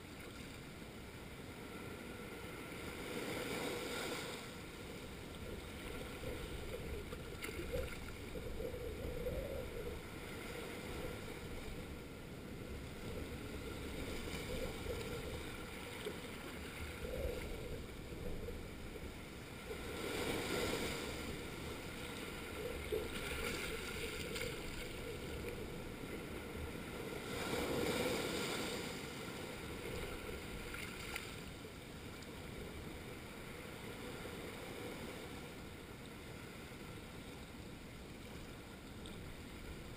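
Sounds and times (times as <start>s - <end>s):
small waves on rocky shore: 1.4s - 37.1s.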